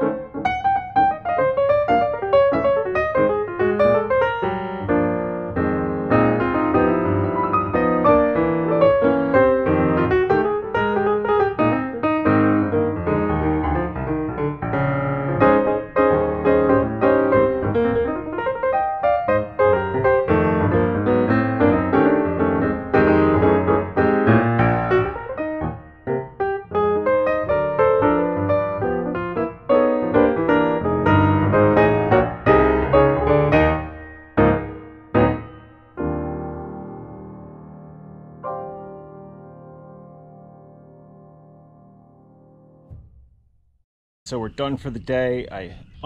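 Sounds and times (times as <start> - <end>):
piano music: 0.0 - 43.1.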